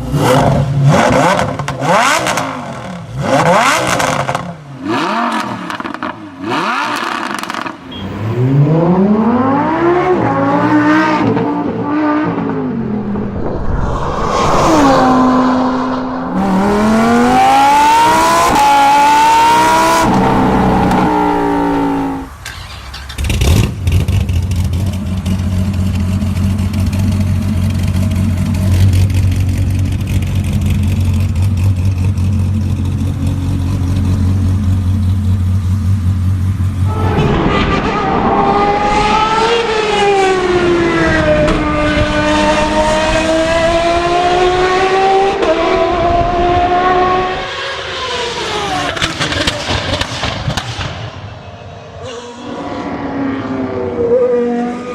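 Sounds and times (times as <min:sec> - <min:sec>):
car engine idling and revving: 0:00.0 - 0:13.1, 0:16.3 - 0:51.0.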